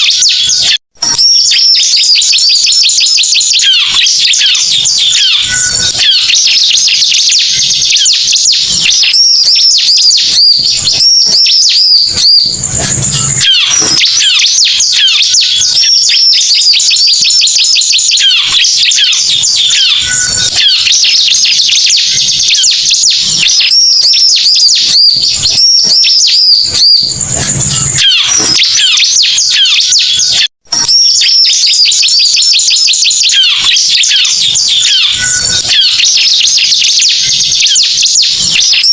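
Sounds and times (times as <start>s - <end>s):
bird song chirps and trills: 0.0s - 38.9s.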